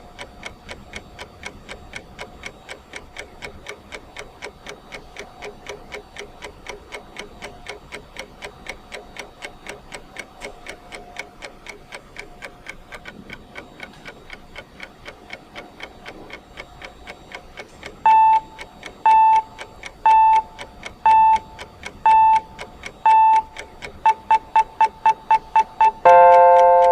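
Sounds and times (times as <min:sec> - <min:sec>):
clock ticking: 0:00.0 - 0:26.9.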